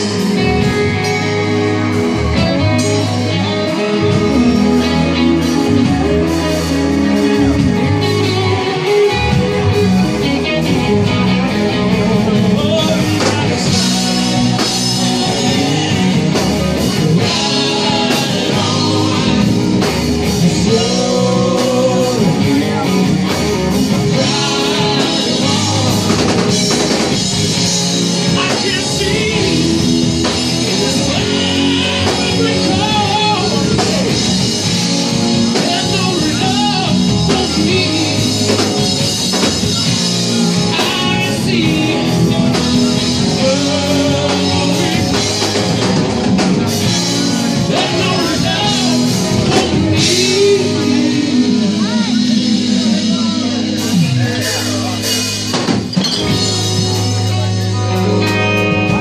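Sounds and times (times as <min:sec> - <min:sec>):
lead vocal singing: 0:00.0 - 0:55.7
bass guitar: 0:00.0 - 0:59.0
drum kit: 0:00.0 - 0:59.0
electric guitars: 0:00.0 - 0:59.0.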